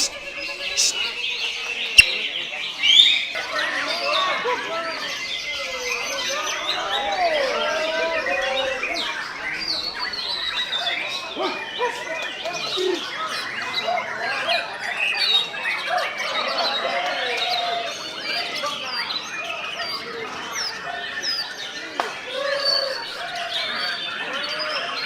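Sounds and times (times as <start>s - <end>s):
songbirds singing in chorus: 0.0s - 25.0s.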